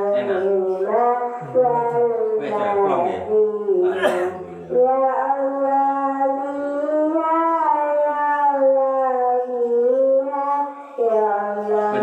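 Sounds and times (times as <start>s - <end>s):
long wavering held voice: 0.0s - 12.0s.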